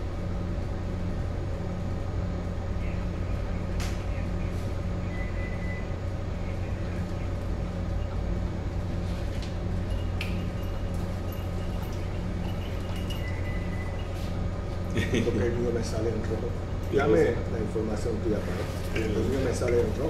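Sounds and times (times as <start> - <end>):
ship machinery hum: 0.0 - 20.0.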